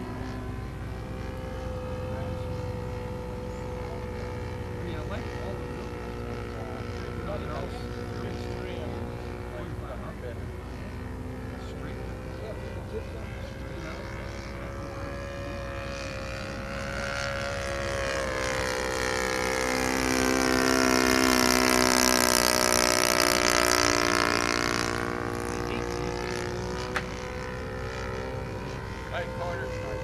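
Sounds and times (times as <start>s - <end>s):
model airplane engine buzzing: 0.0s - 30.0s.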